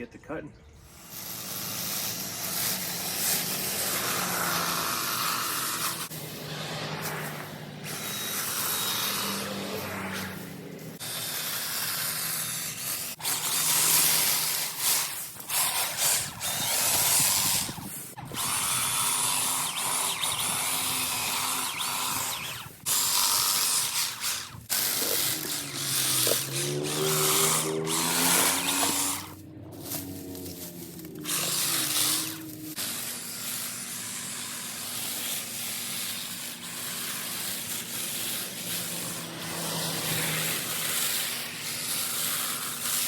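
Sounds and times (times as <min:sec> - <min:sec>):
hedge trimmer cutting: 0:00.8 - 0:43.0.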